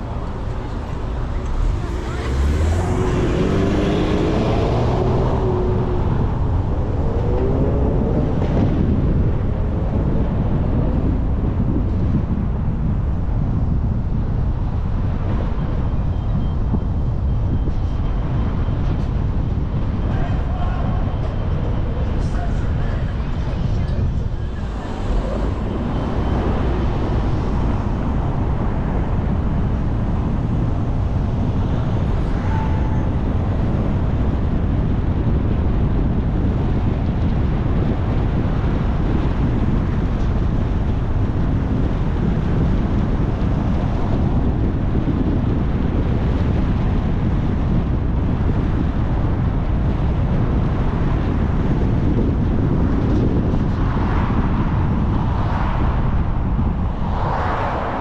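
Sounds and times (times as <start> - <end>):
car tyre and road noise: 0.0 - 58.0
wind buffeting microphone: 0.0 - 58.0.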